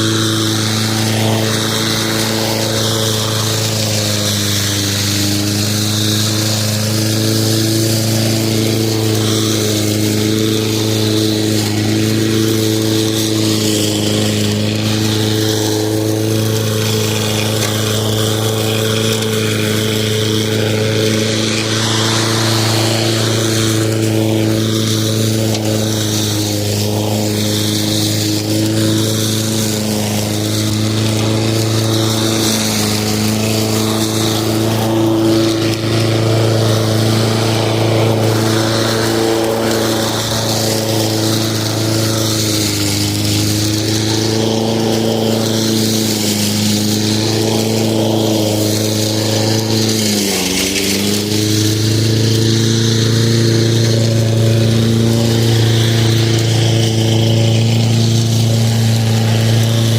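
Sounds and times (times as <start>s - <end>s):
lawn mower running: 0.0s - 59.9s.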